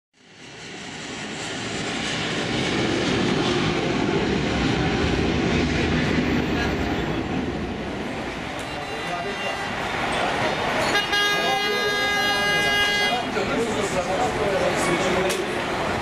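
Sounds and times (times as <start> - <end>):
jet engine roar: 0.2 - 16.0.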